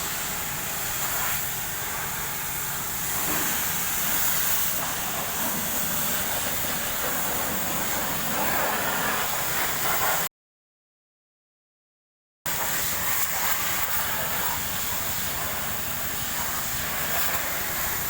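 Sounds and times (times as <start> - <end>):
pressure washer spraying: 0.0 - 10.3, 12.5 - 18.0.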